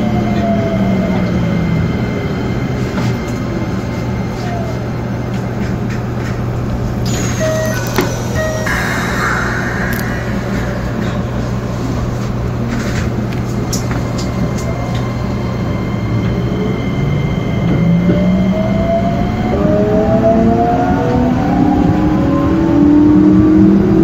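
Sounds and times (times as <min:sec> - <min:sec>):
electric train motor hum and whine: 0:00.0 - 0:24.0.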